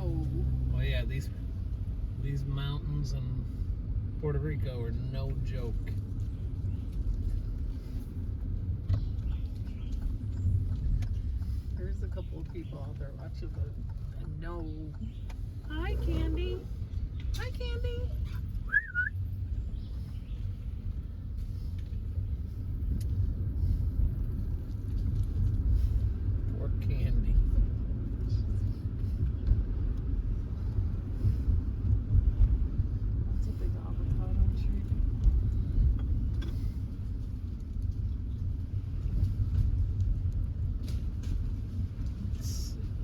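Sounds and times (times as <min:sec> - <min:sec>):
car engine and tyres rumbling: 0:00.0 - 0:43.0.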